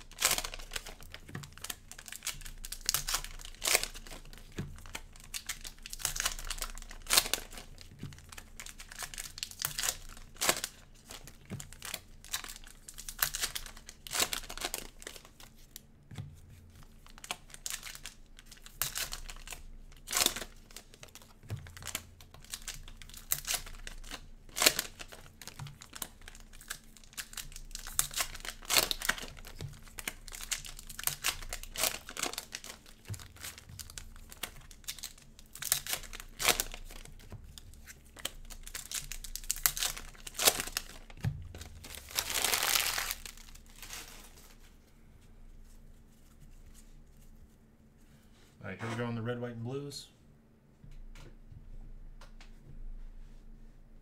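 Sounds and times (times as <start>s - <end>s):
cellophane wrappers crinkling and tearing: 0.0s - 44.8s.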